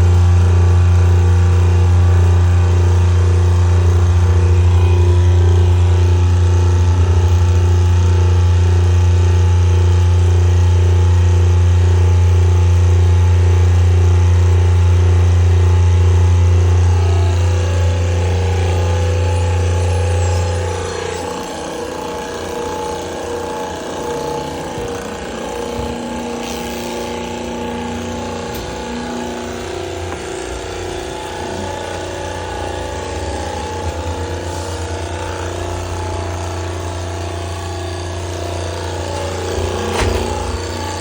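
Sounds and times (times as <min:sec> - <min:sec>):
hydraulic machine hum: 0:00.0 - 0:41.0.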